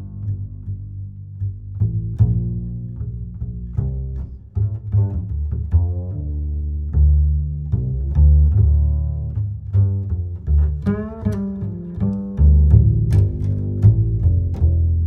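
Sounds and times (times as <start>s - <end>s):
plucked bass line music: 0.0s - 15.0s.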